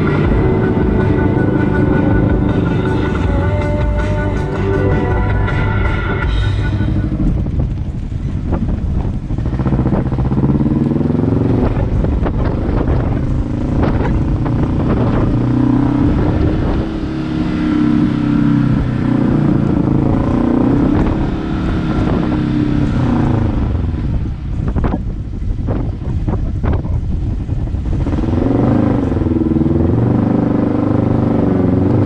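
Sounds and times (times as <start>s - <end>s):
vehicle engine revving: 0.0s - 32.0s
wind buffeting microphone: 0.0s - 32.0s.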